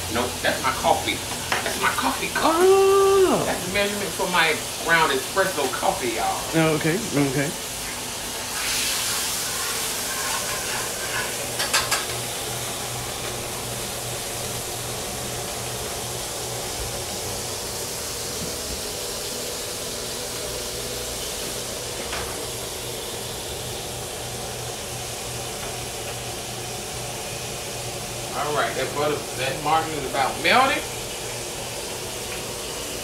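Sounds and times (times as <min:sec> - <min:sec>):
butter sizzling in a pan: 0:00.0 - 0:33.0.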